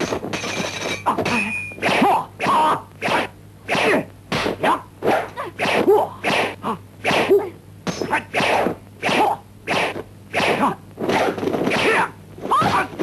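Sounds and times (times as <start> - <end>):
punch and block hits: 0.0 - 13.0
fighters shouting and grunting: 1.1 - 13.0.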